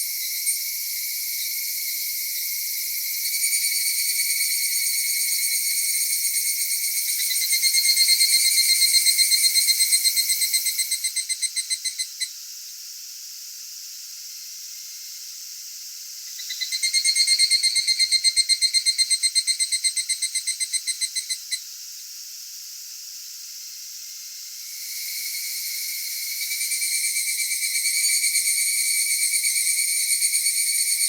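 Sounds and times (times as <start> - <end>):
cicada pulsed song: 0.0 - 31.0
high hiss of insects: 0.0 - 31.0.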